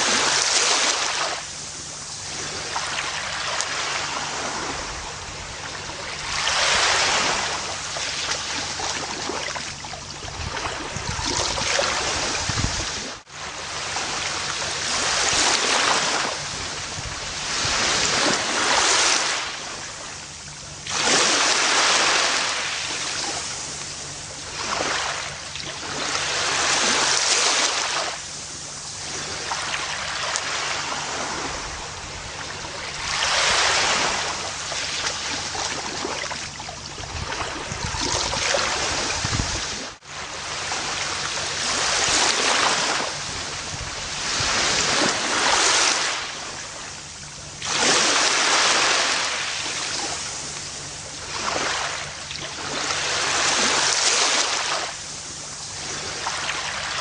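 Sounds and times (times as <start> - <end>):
ocean waves washing onto beach: 0.0 - 57.0.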